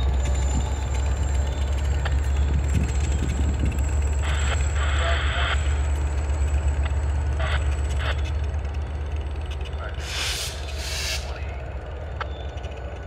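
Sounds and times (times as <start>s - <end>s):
diesel locomotive low rumble: 0.0s - 13.0s.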